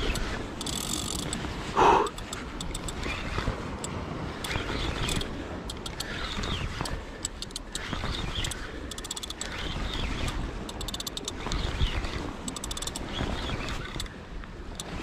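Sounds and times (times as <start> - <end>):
fishing reel ticking: 0.0 - 15.0
sea noise: 0.0 - 15.0
wind: 0.0 - 15.0.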